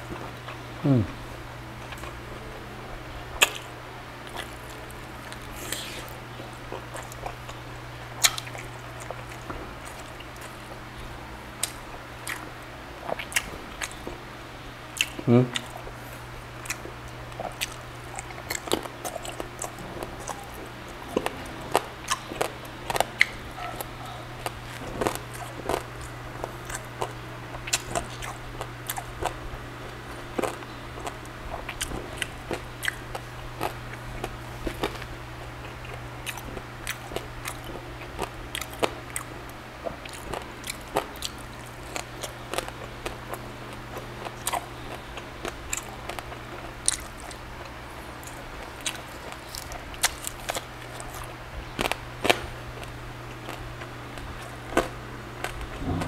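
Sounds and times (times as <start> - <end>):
low steady hum: 0.0 - 56.0
person chewing food: 1.8 - 2.4, 3.4 - 14.2, 14.9 - 56.0.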